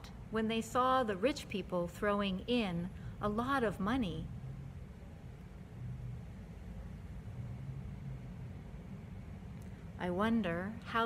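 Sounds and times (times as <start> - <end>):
faint hum: 0.0 - 11.0
low steady rumble: 0.0 - 11.0.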